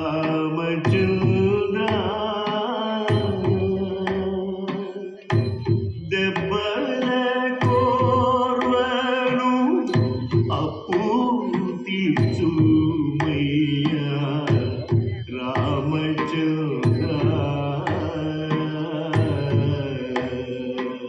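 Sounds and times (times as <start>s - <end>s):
person singing devotional song: 0.0s - 21.0s.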